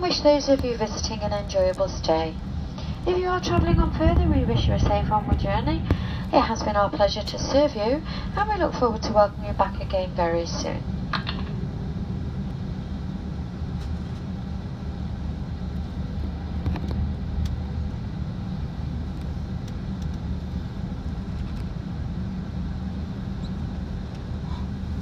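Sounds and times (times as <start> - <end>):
aircraft cabin low rumble: 0.0 - 25.0.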